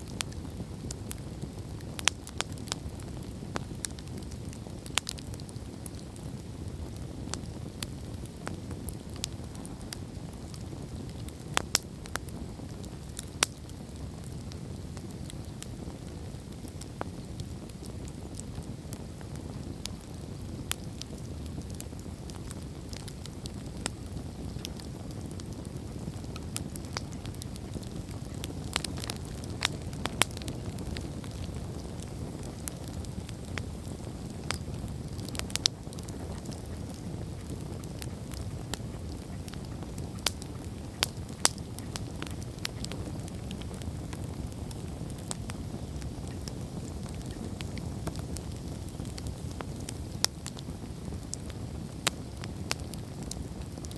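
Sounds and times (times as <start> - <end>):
campfire crackling: 0.0 - 53.9
low rush of flames: 0.0 - 53.9.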